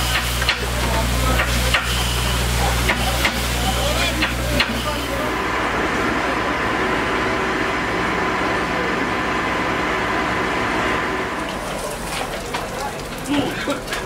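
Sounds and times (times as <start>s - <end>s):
engine hum with faint whine: 0.0s - 14.0s.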